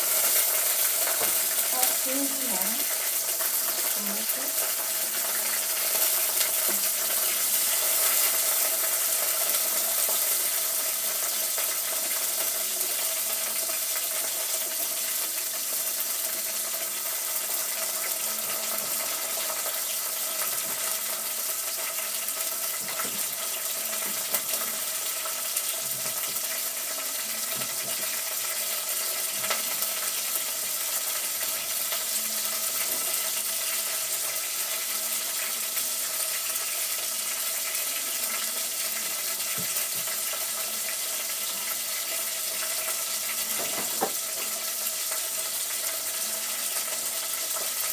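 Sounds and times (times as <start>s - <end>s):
food sizzling in a pan: 0.0s - 47.9s.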